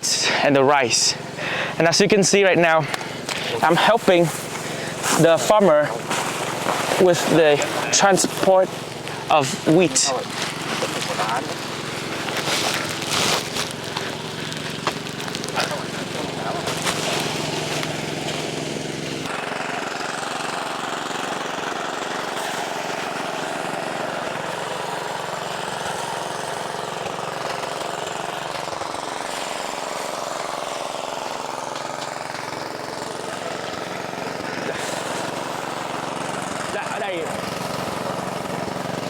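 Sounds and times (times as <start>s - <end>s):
threshing machine clattering: 0.9s - 39.0s.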